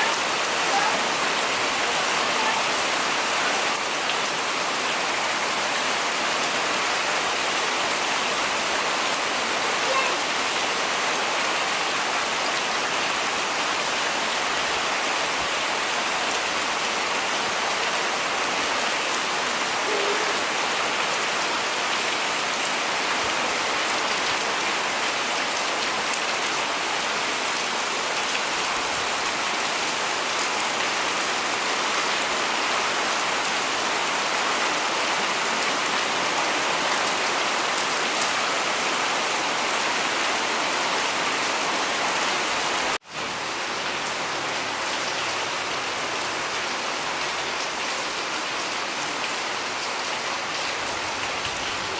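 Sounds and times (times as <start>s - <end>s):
heavy rain on surfaces: 0.0s - 51.9s.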